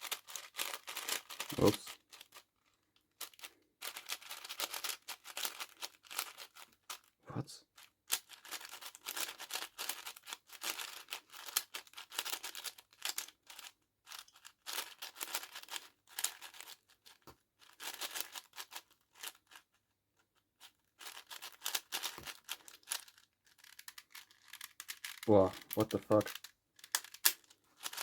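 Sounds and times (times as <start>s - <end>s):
puzzle cube layers clacking: 0.0s - 2.4s, 3.2s - 7.1s, 8.2s - 19.6s, 20.8s - 28.0s.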